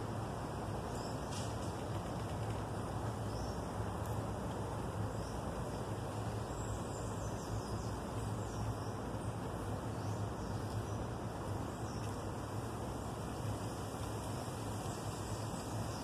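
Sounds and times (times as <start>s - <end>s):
wind rustling bamboo leaves: 0.0s - 16.0s.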